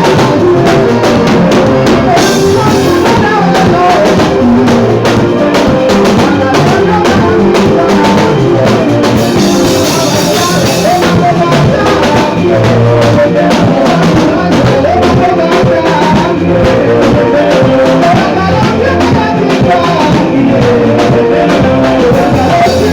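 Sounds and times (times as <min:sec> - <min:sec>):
drum kit beat: 0:00.0 - 0:22.9
guitar or bass: 0:00.0 - 0:22.9
voices singing: 0:00.0 - 0:22.9.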